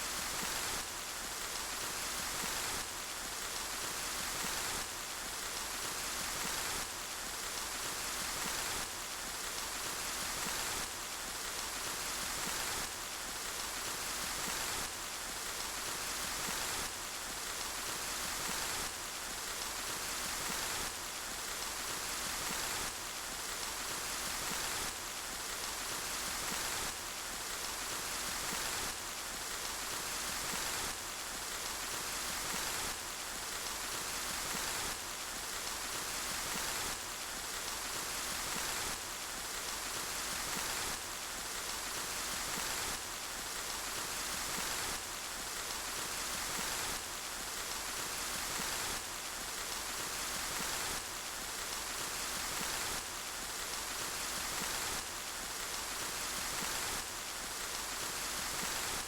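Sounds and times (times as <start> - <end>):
rain falling: 0.1 - 59.0.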